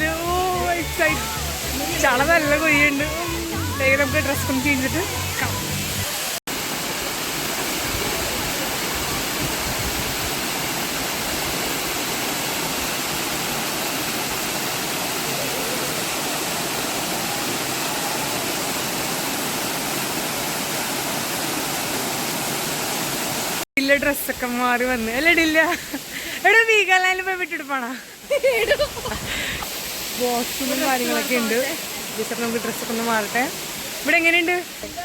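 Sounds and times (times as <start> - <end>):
waterfall rushing: 0.0 - 23.7, 25.0 - 35.0.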